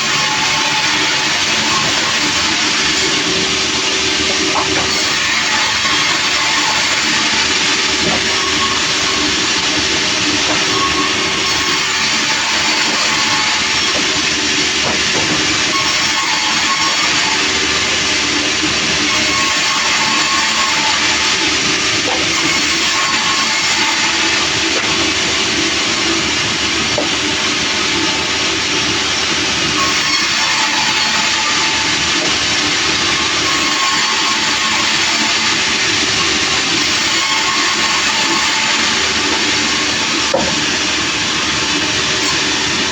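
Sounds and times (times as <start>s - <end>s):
saw cutting log: 0.0s - 42.9s
sawmill machine drone: 0.0s - 42.9s.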